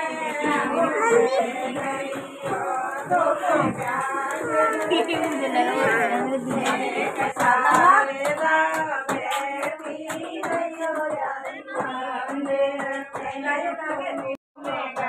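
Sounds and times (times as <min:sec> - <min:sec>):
hand claps: 0:00.0 - 0:15.0
voices singing devotional song: 0:00.0 - 0:15.0.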